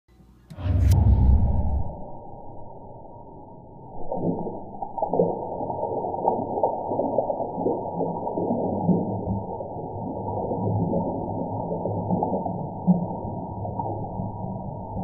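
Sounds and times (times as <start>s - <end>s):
low-pitched water splashing in glass: 0.8s - 15.0s.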